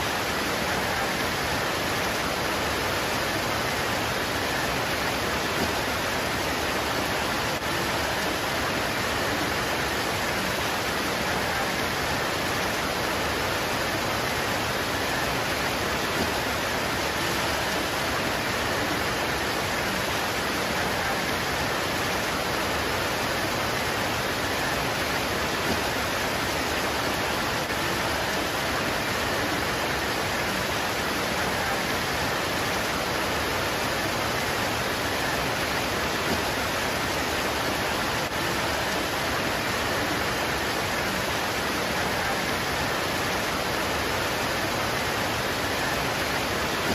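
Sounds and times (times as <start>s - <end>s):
rain on leaves: 0.0s - 46.9s.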